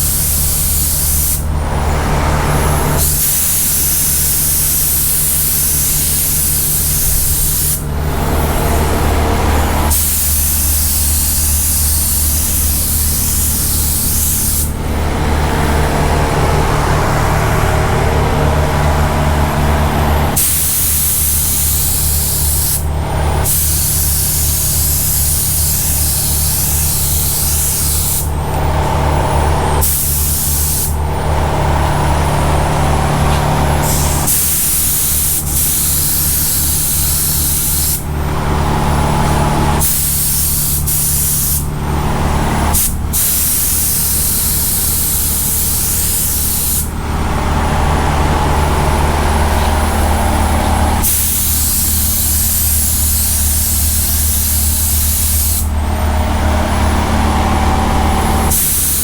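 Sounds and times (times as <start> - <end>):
spray gun air hiss: 0.0 - 1.7, 2.5 - 15.6, 20.2 - 38.2, 39.0 - 47.0, 48.5 - 57.0, 58.0 - 59.0
steady low hum: 0.0 - 59.0.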